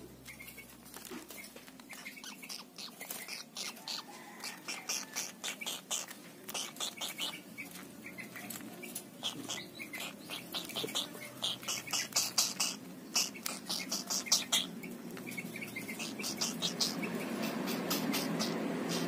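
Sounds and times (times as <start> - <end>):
heron chicks chirping: 0.0 - 19.0.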